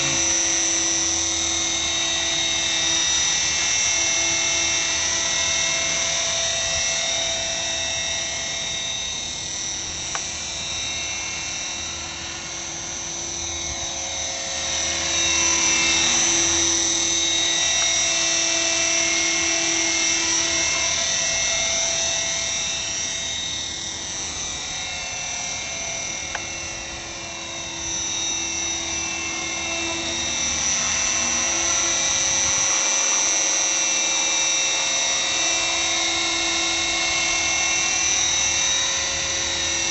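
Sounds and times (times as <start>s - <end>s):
model helicopter motor whine: 0.0s - 39.9s
spinning rotor blades hum: 0.0s - 39.9s.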